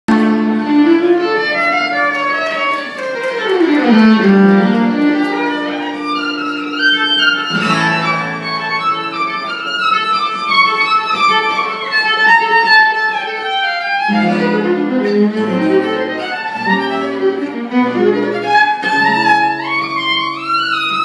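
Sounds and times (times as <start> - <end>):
acoustic guitar: 0.1 - 21.0
fiddle playing melody: 0.1 - 21.0.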